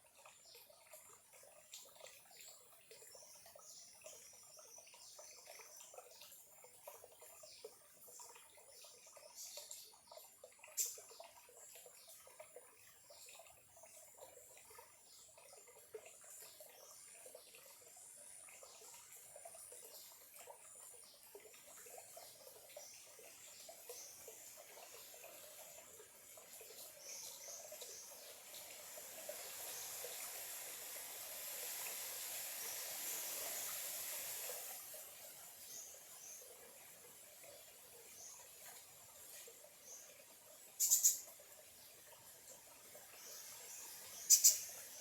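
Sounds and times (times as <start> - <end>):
stream trickling and burbling: 0.0 - 45.0.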